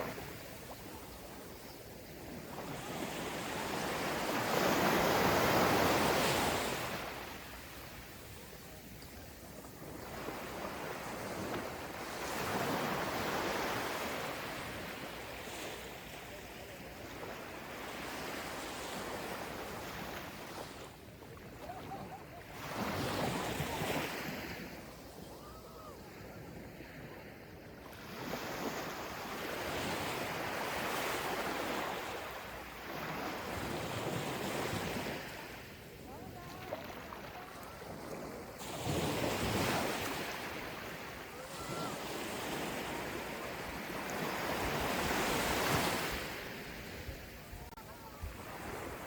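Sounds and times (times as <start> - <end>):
ocean waves on sandy beach: 0.0 - 49.0.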